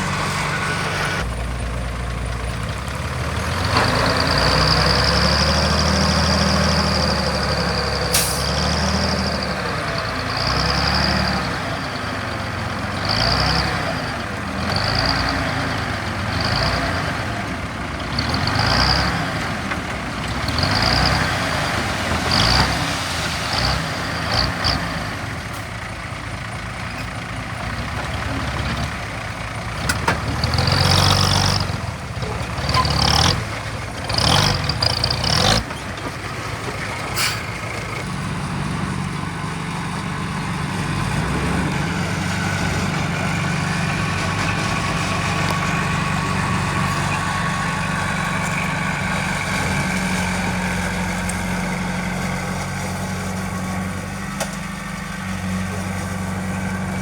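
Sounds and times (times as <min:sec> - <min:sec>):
heavy machinery diesel engines: 0:00.0 - 0:57.0.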